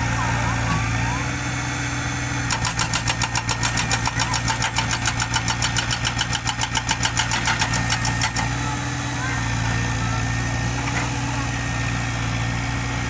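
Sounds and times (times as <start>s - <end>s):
diesel machine low hum: 0.0s - 13.0s.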